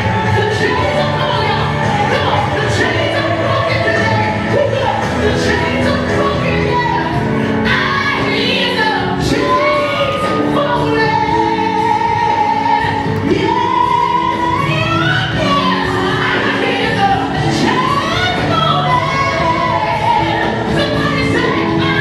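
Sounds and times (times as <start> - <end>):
gospel choir singing: 0.0 - 22.0.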